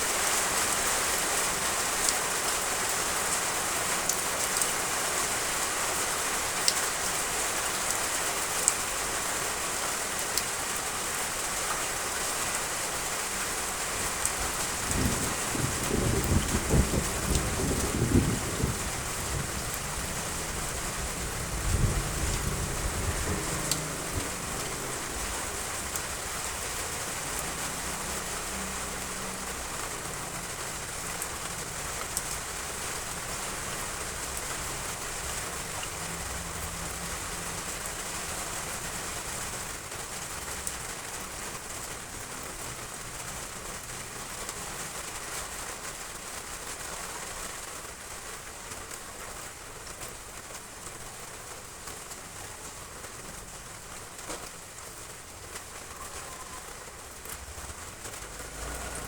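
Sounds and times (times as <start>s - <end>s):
heavy rain on roof tiles: 0.0s - 59.0s.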